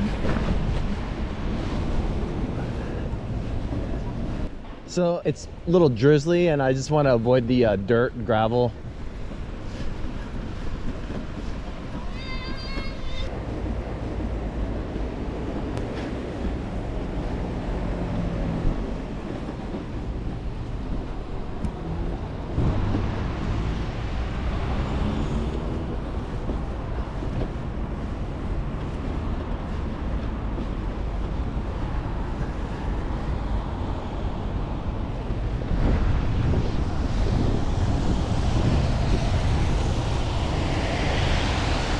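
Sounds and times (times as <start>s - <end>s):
passing traffic: 0.0s - 41.9s
wind buffeting microphone: 0.0s - 41.9s.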